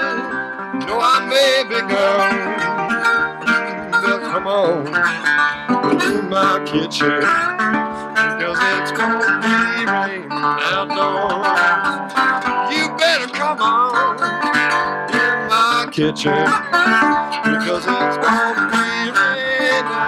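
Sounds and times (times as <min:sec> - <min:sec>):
slide acoustic guitar blues: 0:00.0 - 0:20.0.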